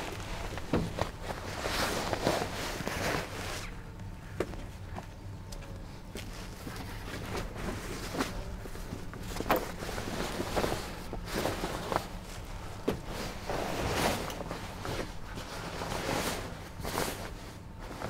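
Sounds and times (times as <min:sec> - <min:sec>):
canvas rustling and scraping: 0:00.0 - 0:04.0, 0:06.2 - 0:18.0.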